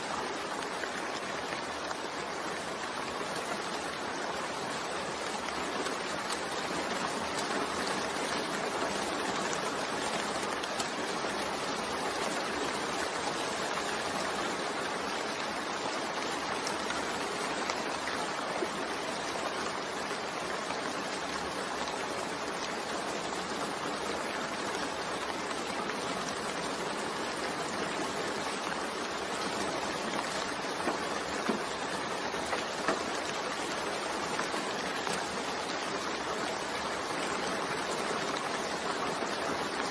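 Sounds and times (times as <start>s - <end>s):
steady rain hiss: 0.0s - 39.9s
raindrops ticking: 0.3s - 39.9s.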